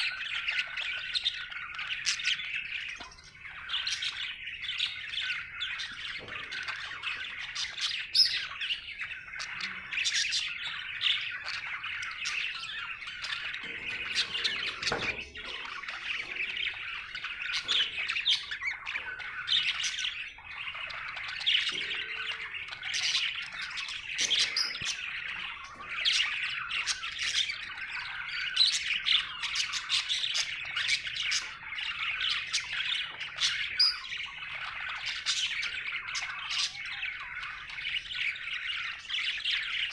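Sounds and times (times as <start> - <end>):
budgerigar chattering: 0.0 - 39.9.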